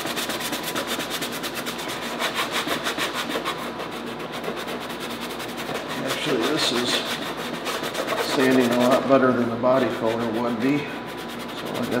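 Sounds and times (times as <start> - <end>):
sanding sponge rasping: 0.0 - 9.2, 10.0 - 12.0.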